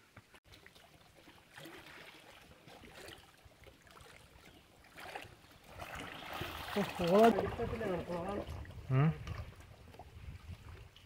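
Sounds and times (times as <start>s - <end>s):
water lapping against stone: 0.5s - 11.0s.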